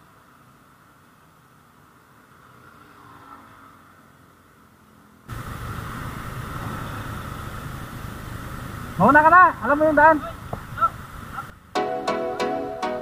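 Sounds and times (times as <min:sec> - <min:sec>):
faint steady hiss: 0:00.0 - 0:02.8, 0:04.0 - 0:13.0
city traffic: 0:00.0 - 0:11.8.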